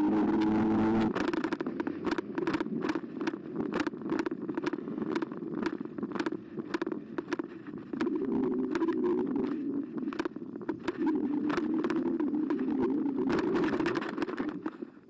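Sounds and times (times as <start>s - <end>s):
electric bike motor whining: 0.0s - 14.8s
clicks and rattles: 0.0s - 15.0s
rough tyre noise: 0.0s - 15.0s.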